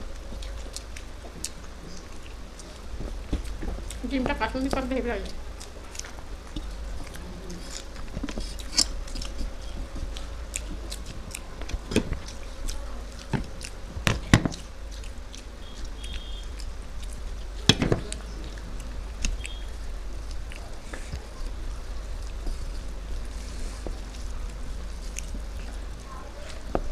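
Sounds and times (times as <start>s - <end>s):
chewing and mouth clicks: 0.0s - 26.9s
steady low hum: 0.0s - 26.9s.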